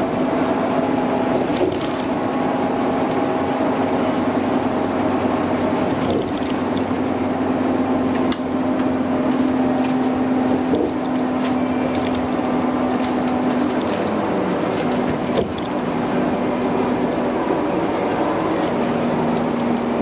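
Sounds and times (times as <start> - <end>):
bus engine drone: 0.0 - 20.0
tyre and road noise: 0.0 - 20.0.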